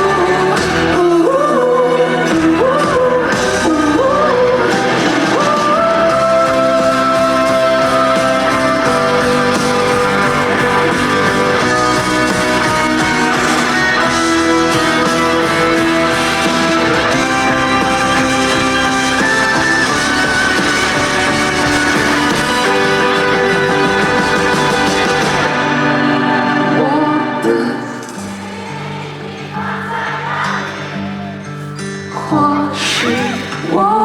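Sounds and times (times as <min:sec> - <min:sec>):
electric guitar lead: 0:00.0 - 0:29.6
pop-rock band playing: 0:00.0 - 0:34.0.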